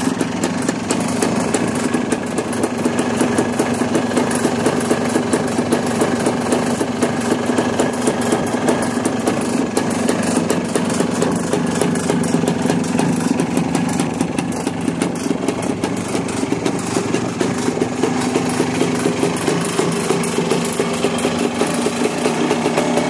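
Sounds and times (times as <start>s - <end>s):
two-stroke engine idling: 0.0s - 23.0s.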